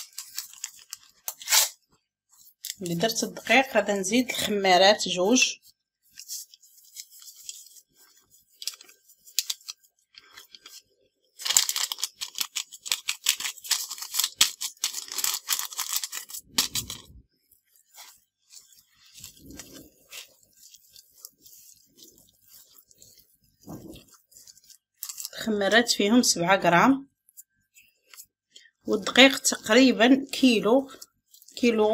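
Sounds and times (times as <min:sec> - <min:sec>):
flour rustling in a bowl: 0:00.0 - 0:31.9
dough squelching: 0:02.4 - 0:31.9.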